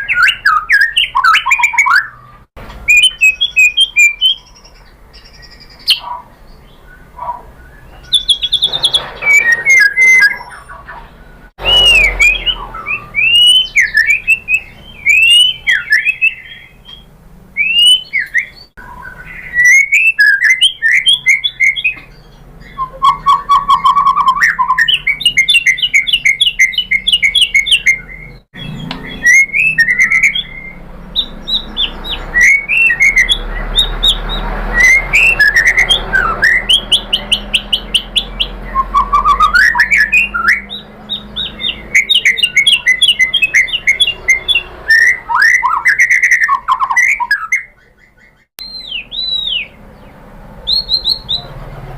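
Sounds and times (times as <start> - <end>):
bird singing whistles and trills: 0.0 - 51.5.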